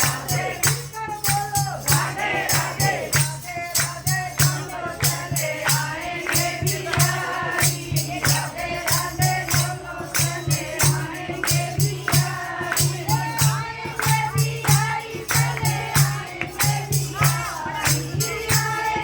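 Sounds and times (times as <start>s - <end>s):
group of voices singing: 0.0s - 19.0s
hand drum beat: 0.0s - 19.0s
jingling percussion: 0.0s - 19.0s.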